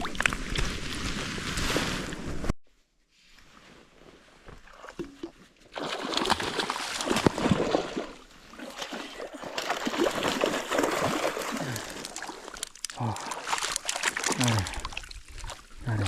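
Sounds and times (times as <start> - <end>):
water splashing and sloshing: 0.0 - 2.5, 4.4 - 16.0.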